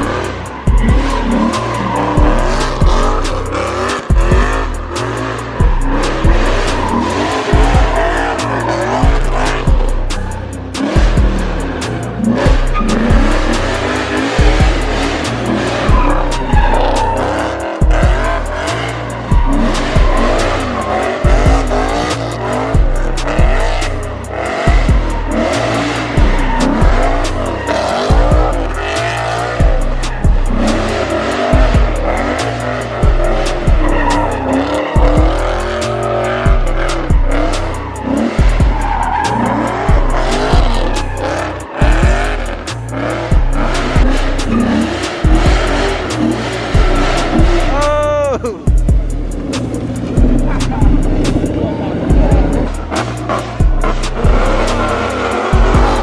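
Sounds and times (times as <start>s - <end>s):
car engines revving: 0.0s - 56.0s
hip-hop music with heavy bass: 0.0s - 56.0s
tyres squealing: 0.0s - 56.0s.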